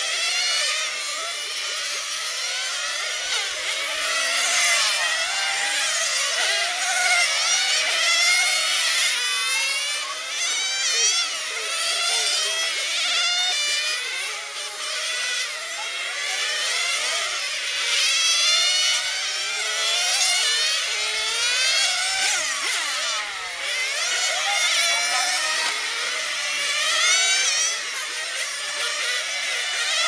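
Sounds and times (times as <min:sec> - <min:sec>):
rc cars engines revving: 0:00.0 - 0:30.0.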